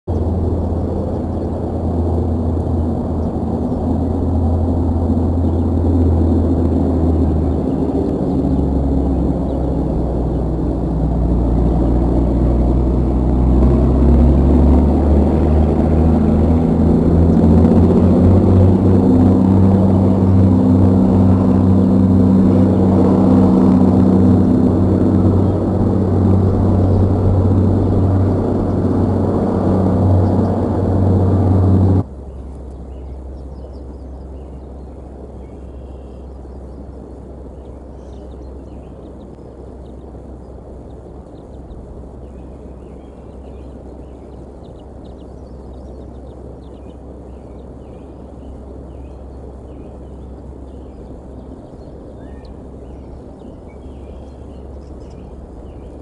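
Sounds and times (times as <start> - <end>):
low engine drone: 0.0 - 56.0.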